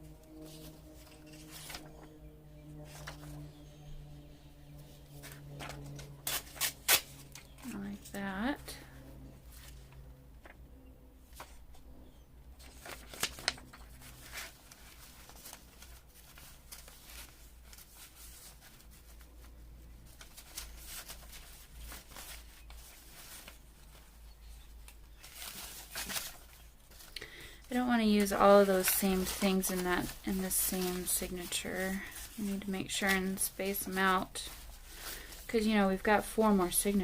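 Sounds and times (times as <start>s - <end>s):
paper rustling: 0.0s - 3.9s, 4.6s - 10.6s, 11.2s - 11.9s, 12.6s - 37.0s.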